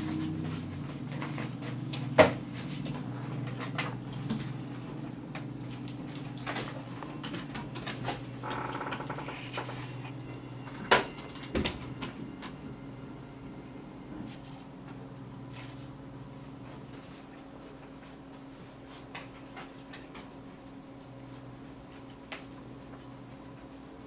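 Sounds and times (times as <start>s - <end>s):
office equipment humming: 0.0s - 24.0s.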